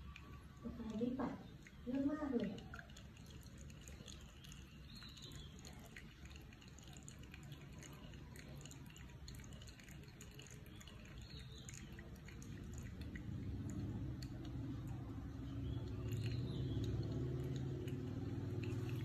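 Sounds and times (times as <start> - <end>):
small ticks: 0.0 - 19.0.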